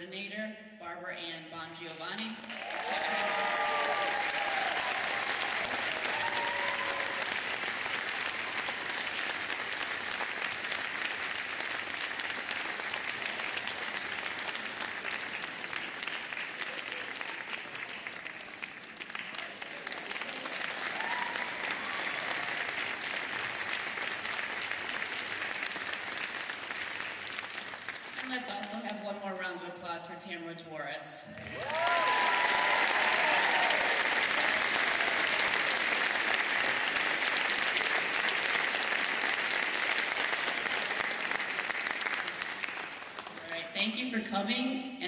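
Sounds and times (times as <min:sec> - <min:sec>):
audience applauding: 0:01.9 - 0:28.6, 0:31.4 - 0:43.7.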